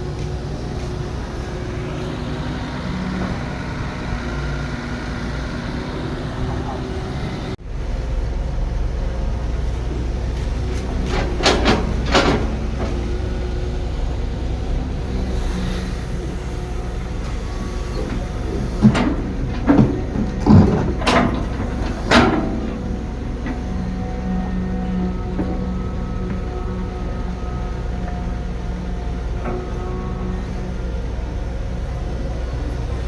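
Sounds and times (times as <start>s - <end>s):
diesel machinery rumble: 0.0s - 33.0s.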